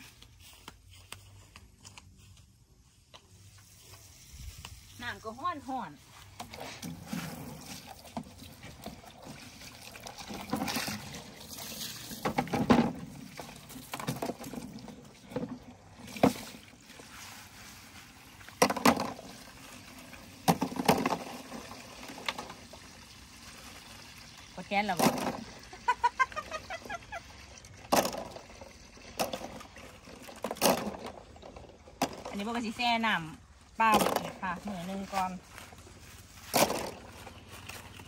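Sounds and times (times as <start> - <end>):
hose water pouring into tub: 3.7 - 34.6
plastic cups splashing into water: 6.1 - 35.2, 36.3 - 38.0.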